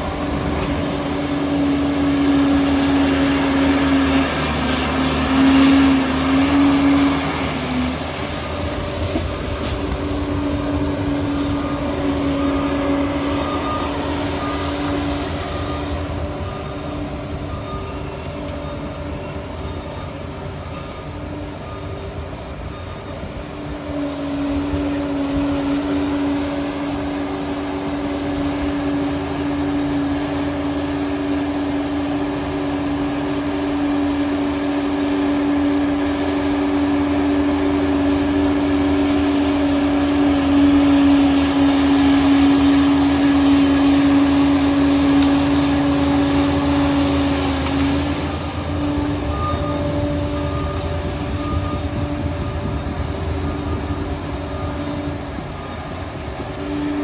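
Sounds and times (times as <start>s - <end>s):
bulldozer engine droning: 0.0s - 57.0s
steady machine whine: 0.0s - 57.0s.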